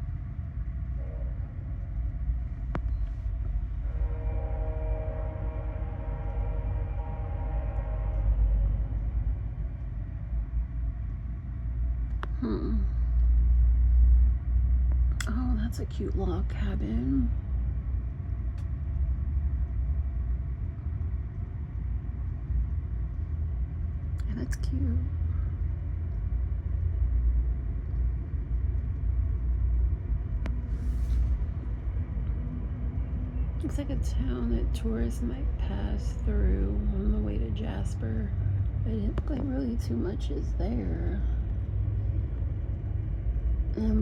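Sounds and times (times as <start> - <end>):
passenger train rumbling on track: 0.0 - 12.1, 12.7 - 44.0.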